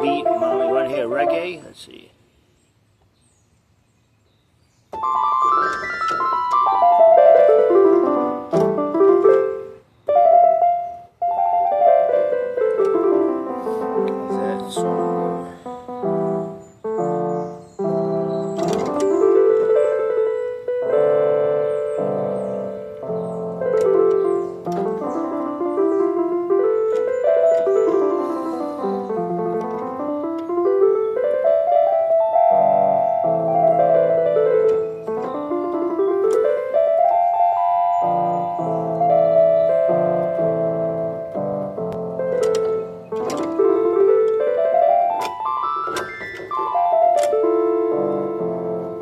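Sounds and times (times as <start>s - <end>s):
electronic keyboard chords: 0.0s - 1.7s, 4.9s - 49.0s.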